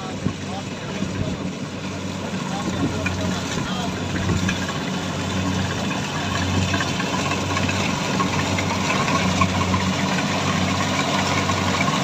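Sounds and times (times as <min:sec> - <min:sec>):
farm machine engine running: 0:00.0 - 0:12.0.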